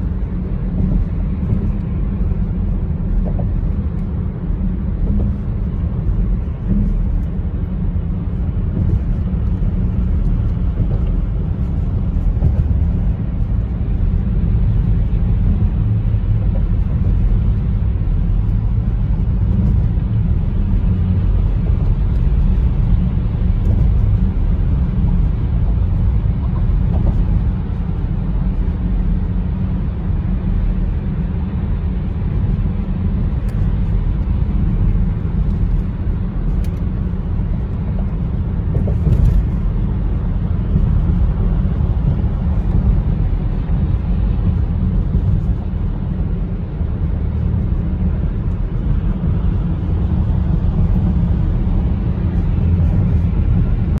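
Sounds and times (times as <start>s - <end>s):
car engine: 0.0s - 54.0s
tyre and road noise: 0.0s - 54.0s.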